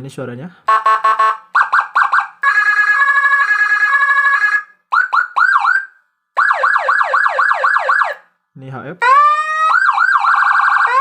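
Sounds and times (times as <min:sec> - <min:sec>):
electronic siren patterns: 0:00.7 - 0:08.2, 0:09.0 - 0:11.0.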